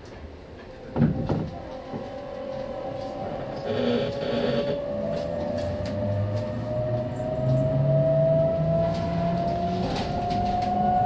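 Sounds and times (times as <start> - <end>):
electric train motor whine: 1.5 - 11.0.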